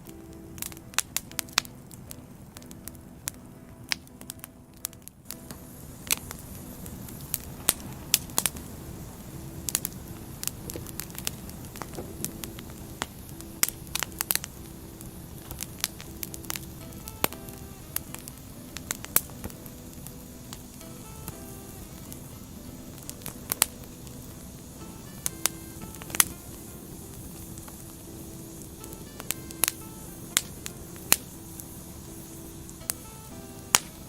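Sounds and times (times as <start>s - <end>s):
firewood crackling and popping: 0.0s - 34.0s
low rustle of flames: 0.0s - 34.0s.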